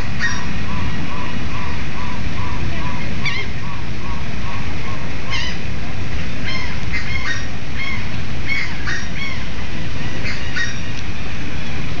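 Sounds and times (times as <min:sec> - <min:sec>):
flamingos calling: 0:00.0 - 0:11.8.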